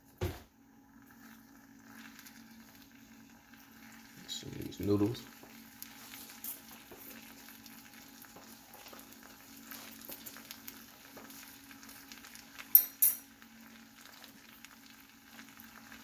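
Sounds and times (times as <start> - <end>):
noodles sizzling in a wok: 0.0 - 16.0.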